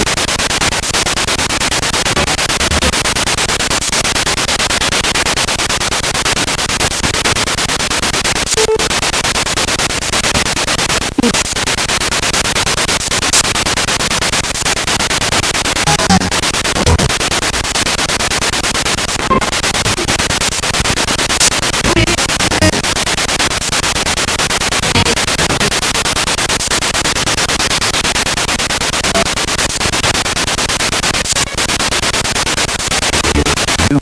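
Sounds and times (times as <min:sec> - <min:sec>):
pulsing radio static: 0:00.0 - 0:34.0.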